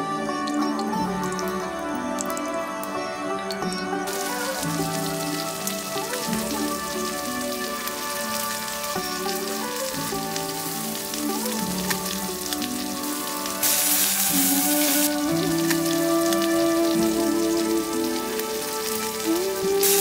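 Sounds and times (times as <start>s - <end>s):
slow instrumental music: 0.0s - 20.0s
fish sizzling in hot oil: 0.2s - 20.0s.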